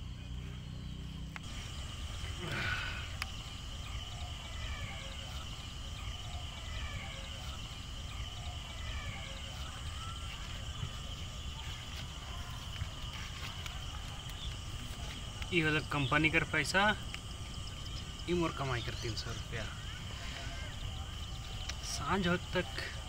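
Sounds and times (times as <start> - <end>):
low wind rumble: 0.0 - 22.5
birds chirping: 0.0 - 23.0
high insect drone: 0.0 - 23.0.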